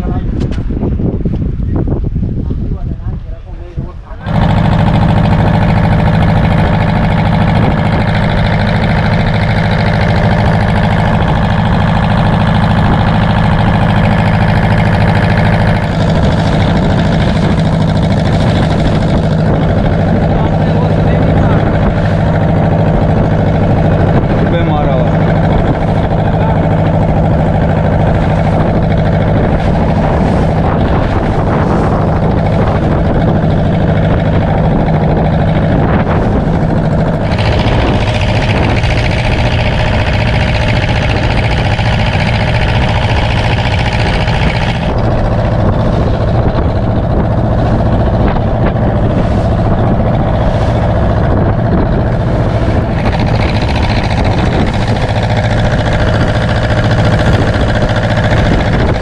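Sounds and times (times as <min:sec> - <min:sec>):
boat diesel engine running: 0:00.0 - 0:59.0.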